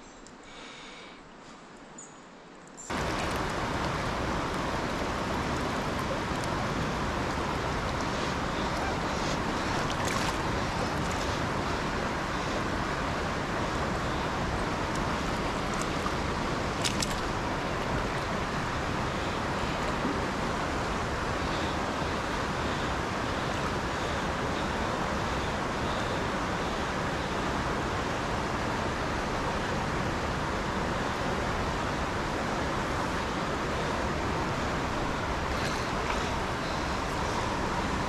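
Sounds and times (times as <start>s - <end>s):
stream water rushing: 1.8s - 38.0s.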